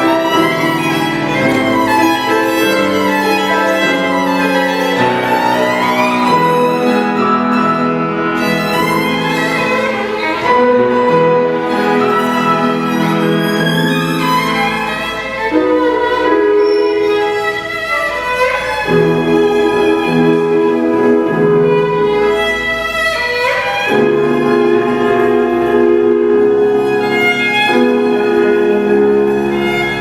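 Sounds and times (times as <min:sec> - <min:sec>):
accompanying notes beneath: 0:00.0 - 0:30.0
classical violin with vibrato: 0:00.0 - 0:30.0.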